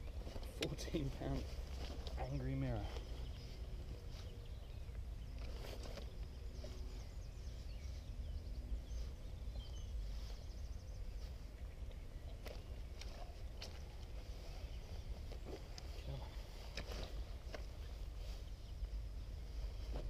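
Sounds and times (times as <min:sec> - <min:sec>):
birds singing: 0:00.0 - 0:20.0.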